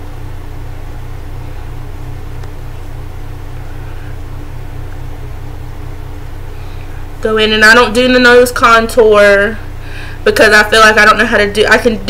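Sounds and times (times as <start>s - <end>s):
machine hum with pulsing throb: 0.0s - 12.0s.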